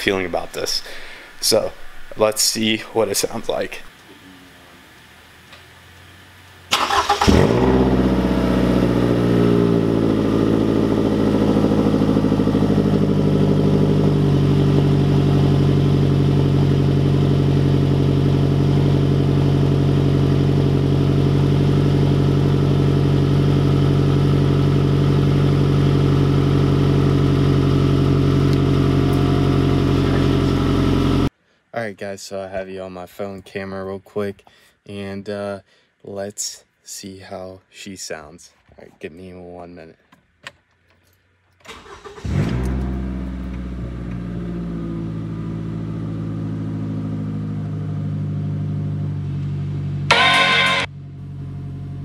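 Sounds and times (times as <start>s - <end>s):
car engine starting and idling: 0.0s - 31.3s, 41.6s - 52.0s.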